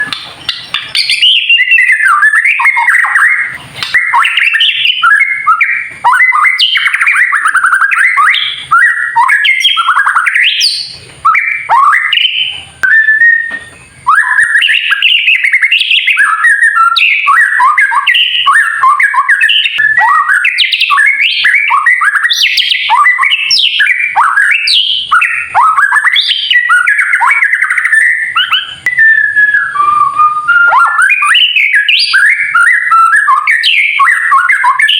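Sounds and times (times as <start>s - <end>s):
bird singing rapid whistles: 0.0s - 34.9s.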